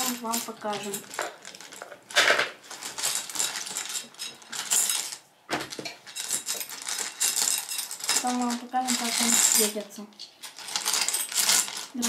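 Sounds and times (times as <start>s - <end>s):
pebbles clattering together: 0.0s - 12.0s.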